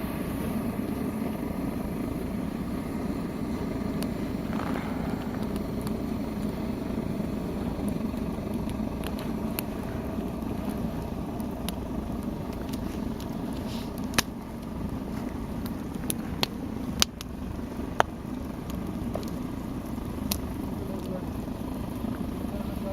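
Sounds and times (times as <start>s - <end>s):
campfire rumbling: 0.0s - 22.9s
burning wood popping and cracking: 1.9s - 22.9s.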